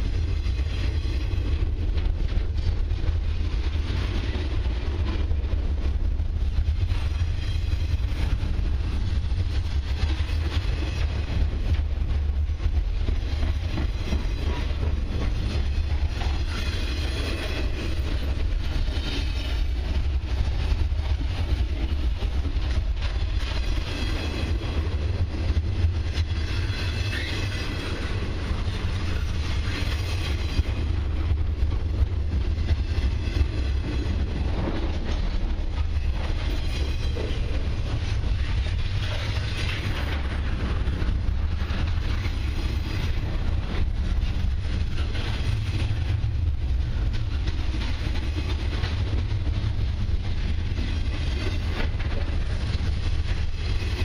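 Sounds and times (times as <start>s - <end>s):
freight train rolling past: 0.0s - 54.0s
steel wheels rumbling on rails: 0.0s - 54.0s.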